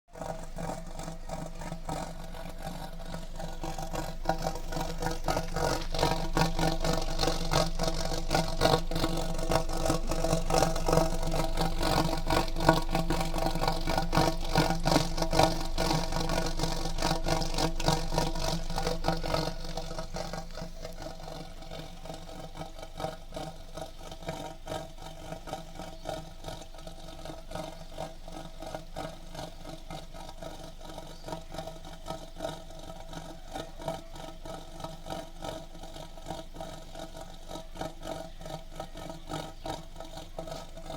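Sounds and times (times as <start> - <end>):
car exhaust droning with rattle: 0.0 - 40.9.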